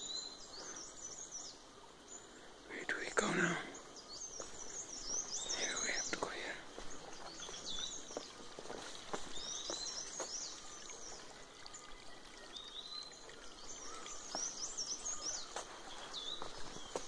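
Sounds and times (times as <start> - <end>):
faint steady hiss: 0.0 - 17.0
small birds chirping: 0.0 - 17.0.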